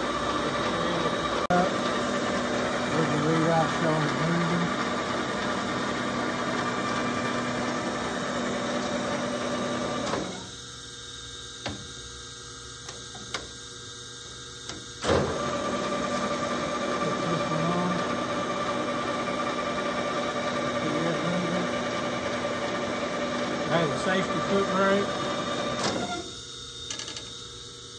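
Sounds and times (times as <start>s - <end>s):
lathe running with whir: 0.0s - 27.9s.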